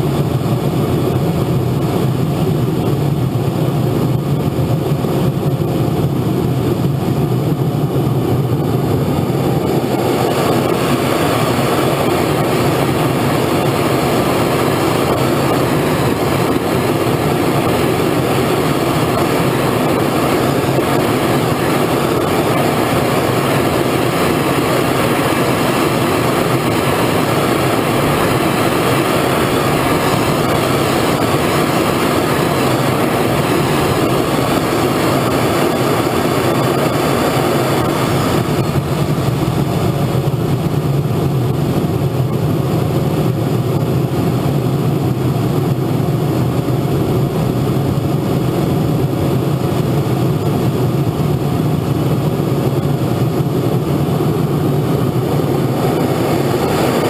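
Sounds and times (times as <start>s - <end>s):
model jet engine idling: 0.0s - 57.0s.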